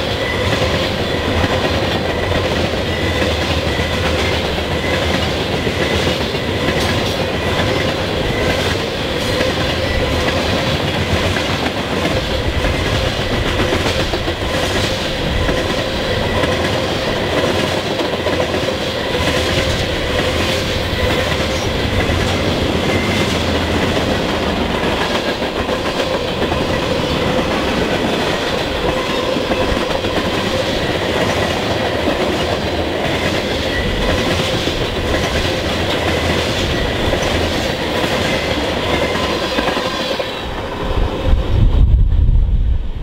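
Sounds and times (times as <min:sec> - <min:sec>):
wheels clacking over rail joints: 0:00.0 - 0:40.9
faint ringing of wheels on rails: 0:00.0 - 0:41.6
freight train rumbling past: 0:00.0 - 0:43.0
wind buffeting microphone: 0:00.2 - 0:39.3, 0:40.3 - 0:43.0.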